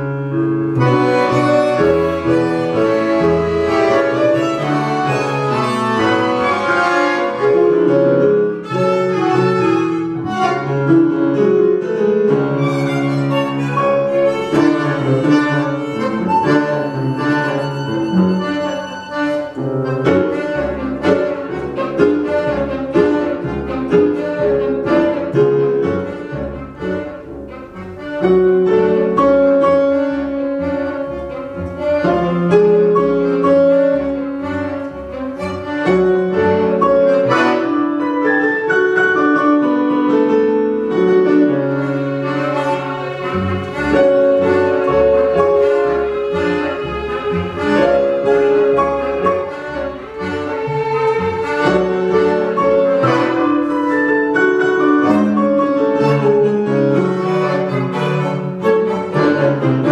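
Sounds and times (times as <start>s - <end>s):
tango ensemble playing: 0.0s - 59.9s.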